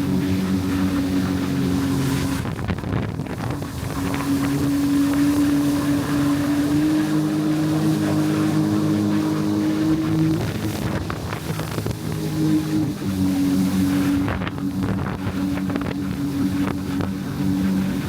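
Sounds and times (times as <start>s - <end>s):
jet ski engine running: 0.0s - 18.0s
wind buffeting microphone: 0.0s - 18.0s.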